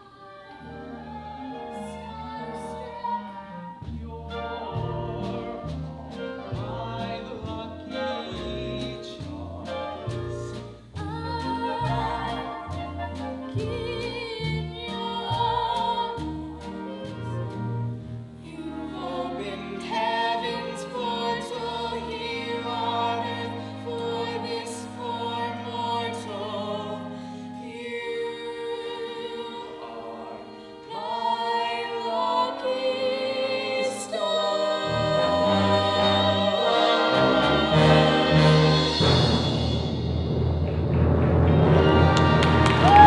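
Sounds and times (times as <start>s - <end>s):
show tune singing with accompaniment: 0.0s - 40.0s, 41.4s - 43.0s.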